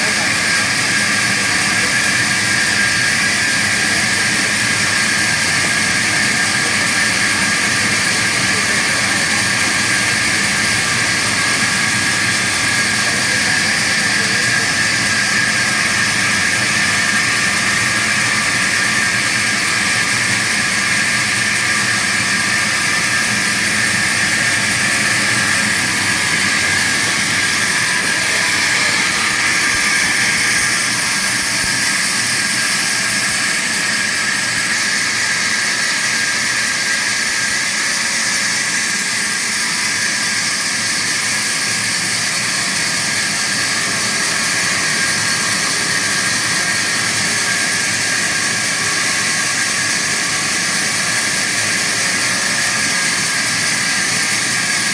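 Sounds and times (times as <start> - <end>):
band saw running: 0.0 - 54.9.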